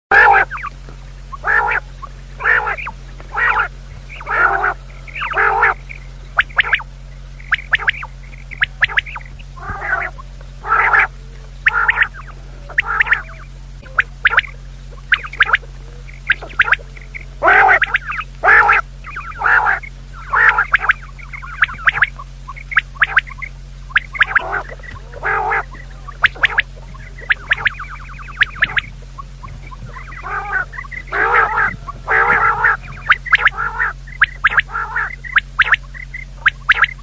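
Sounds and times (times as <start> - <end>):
low electrical hum: 0.0 - 37.0
quail calling: 0.1 - 37.0.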